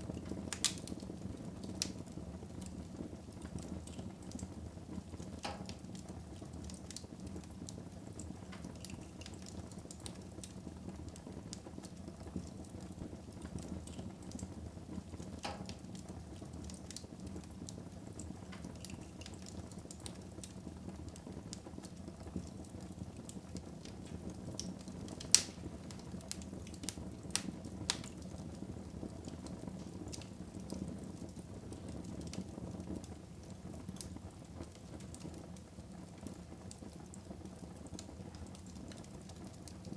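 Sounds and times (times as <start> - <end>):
fire crackling: 0.0 - 39.9
fire flames rushing: 0.0 - 39.9
fire popping: 0.0 - 39.9.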